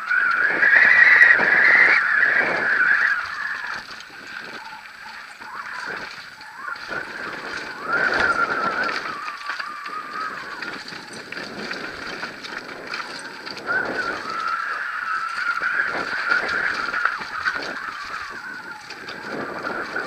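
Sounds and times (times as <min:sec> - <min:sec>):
tyres crunching over stones: 0:00.0 - 0:20.0.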